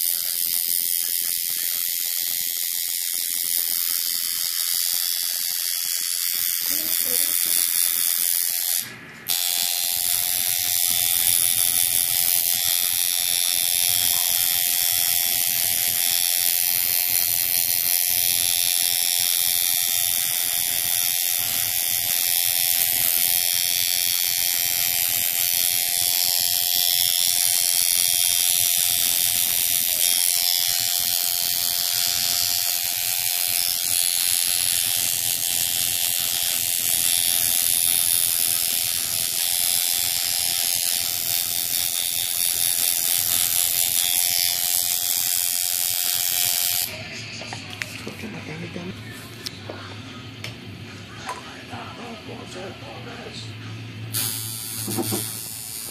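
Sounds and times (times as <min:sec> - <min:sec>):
tattoo machine buzzing: 0:00.0 - 0:50.6, 0:53.9 - 0:55.9.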